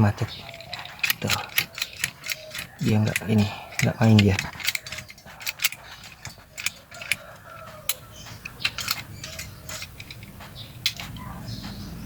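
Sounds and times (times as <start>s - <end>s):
seatbelt retractor clicking and rattling: 0.0s - 11.3s.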